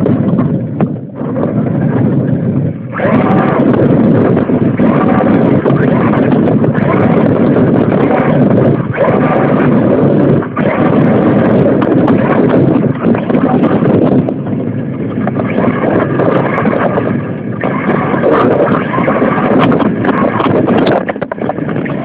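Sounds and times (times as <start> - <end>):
radio-controlled car rumbling: 0.0 - 22.0.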